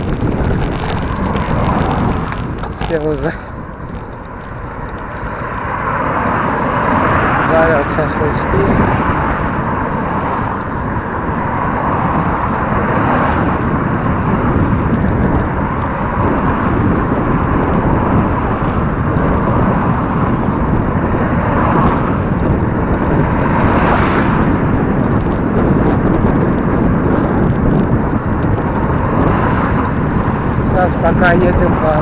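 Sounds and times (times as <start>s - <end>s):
bicycle tyres on asphalt: 0.0s - 32.0s
wind on microphone: 0.0s - 32.0s.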